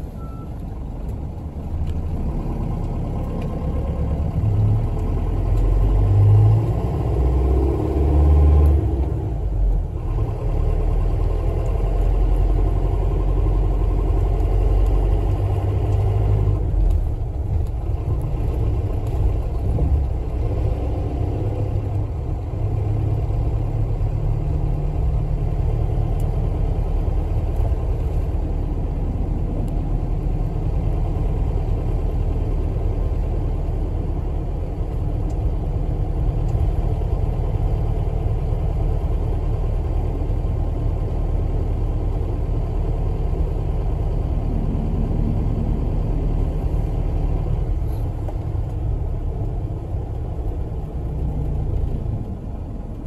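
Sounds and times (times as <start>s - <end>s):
bus engine rumble: 0.0s - 53.0s.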